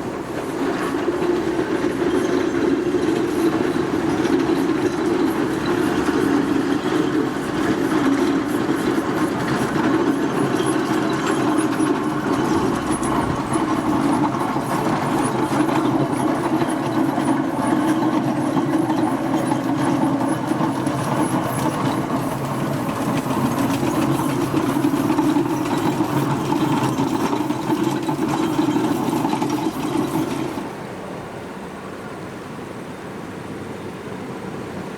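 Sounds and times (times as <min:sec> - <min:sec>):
steam traction engine running: 0:00.0 - 0:31.6.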